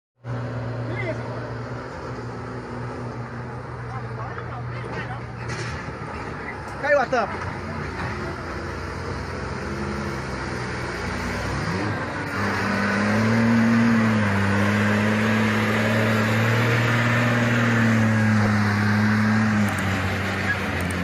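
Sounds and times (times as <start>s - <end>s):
truck engine revving: 0.2s - 21.0s.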